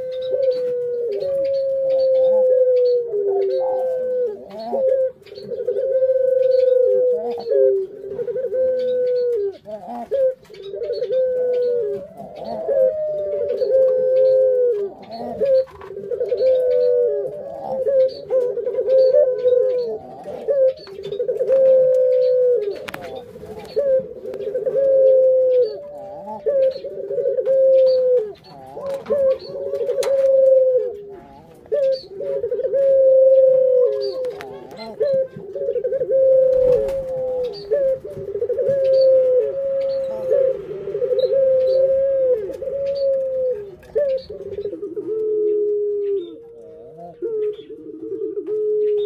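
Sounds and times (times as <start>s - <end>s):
doves cooing: 0.0s - 49.0s.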